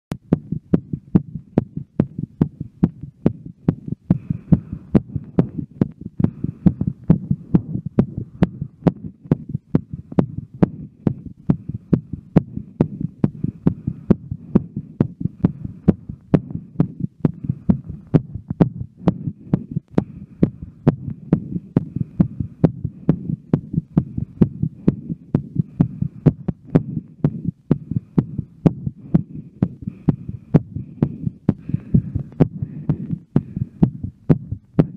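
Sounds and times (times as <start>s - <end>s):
fast heartbeat: 0.1s - 34.9s
low steady rumble: 0.1s - 34.9s.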